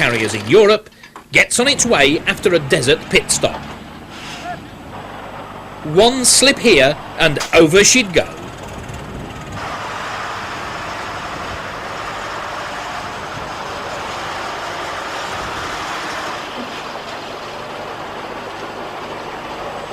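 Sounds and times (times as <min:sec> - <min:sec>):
heavy truck engine running: 0:00.0 - 0:19.9.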